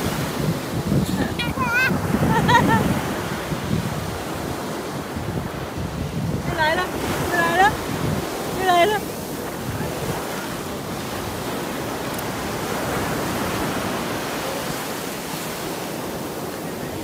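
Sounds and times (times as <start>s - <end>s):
small waves washing up beach: 0.0s - 17.0s.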